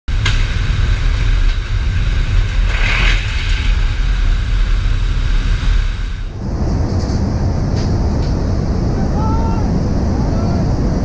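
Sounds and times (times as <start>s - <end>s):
turbofan engines rumbling: 0.1s - 11.0s.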